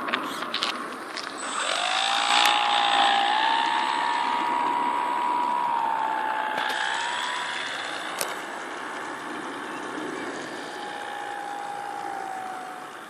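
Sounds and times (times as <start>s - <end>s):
model aeroplane motor whine: 1.2s - 13.0s.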